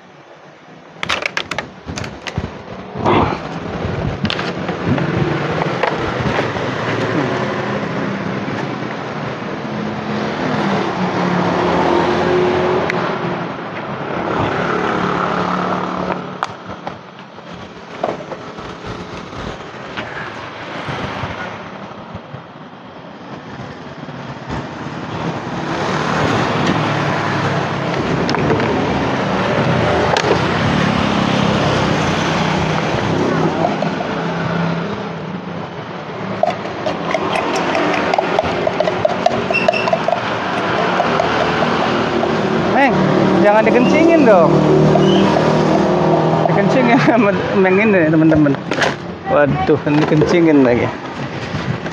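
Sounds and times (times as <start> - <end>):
road traffic passing: 0.0 - 51.9.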